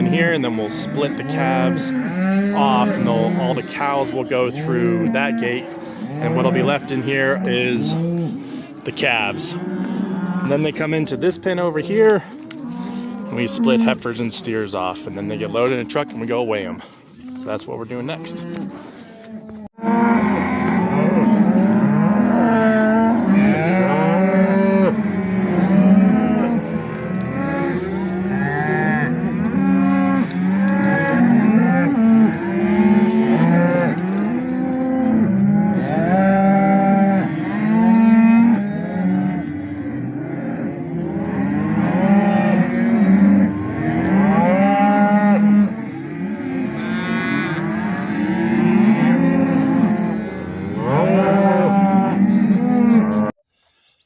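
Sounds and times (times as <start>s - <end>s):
cows and calves mooing: 0.0s - 53.4s.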